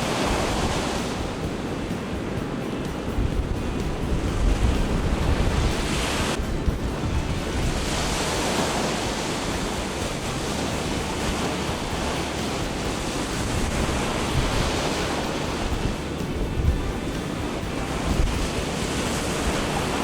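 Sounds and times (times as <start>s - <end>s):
sea waves washing on shore: 0.0s - 20.0s
wind buffeting microphone: 0.0s - 20.0s.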